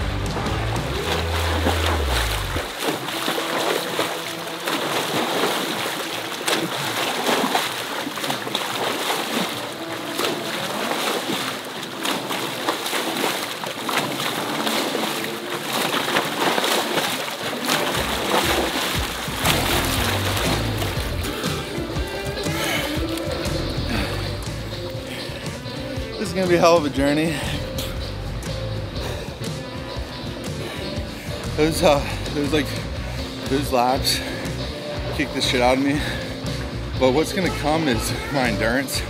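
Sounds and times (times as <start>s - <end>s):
background music: 0.0s - 39.0s
water splashing from swimming: 0.0s - 39.0s.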